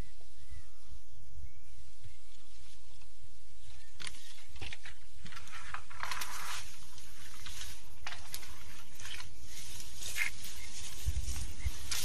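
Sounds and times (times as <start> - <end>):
brush rustling: 2.2 - 12.0.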